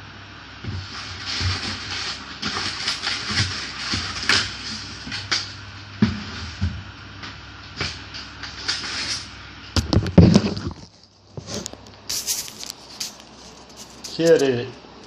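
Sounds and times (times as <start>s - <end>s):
box packing rustling and scraping: 0.7s - 6.9s, 7.8s - 14.6s.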